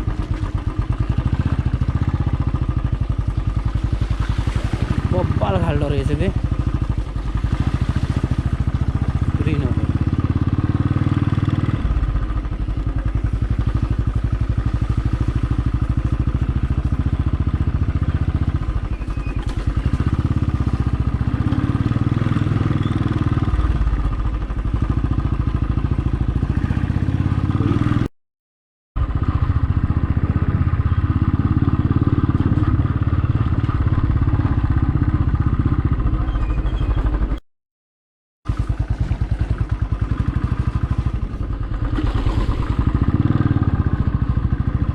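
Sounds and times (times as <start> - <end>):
motorcycle engine running: 0.0 - 28.1, 29.0 - 37.4, 38.5 - 44.9.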